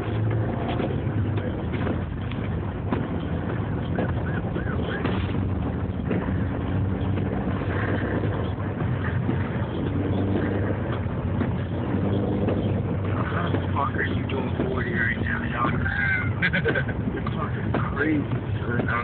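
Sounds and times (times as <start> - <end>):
car engine droning: 0.0 - 19.0
road and tyre noise: 0.0 - 19.0.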